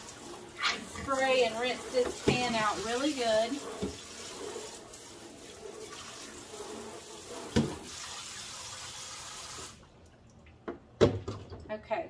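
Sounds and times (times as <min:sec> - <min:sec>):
sprayer spraying water into dishpan: 0:00.0 - 0:09.7.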